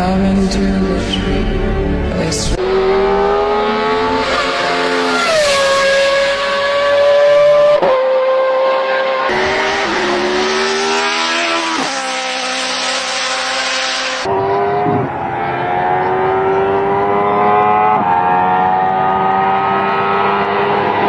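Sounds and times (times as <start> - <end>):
racing engine at high revs: 2.5 - 21.0.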